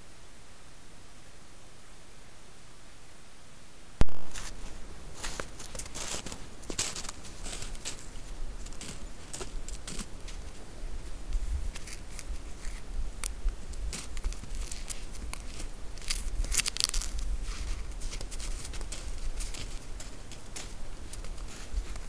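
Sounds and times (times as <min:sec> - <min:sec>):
deer stepping in snow: 0:04.3 - 0:22.0.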